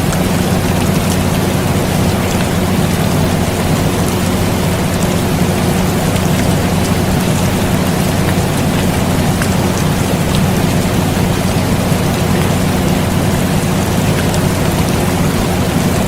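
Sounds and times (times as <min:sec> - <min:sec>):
air conditioner humming: 0:00.0 - 0:16.0
steady rain falling: 0:00.0 - 0:16.0.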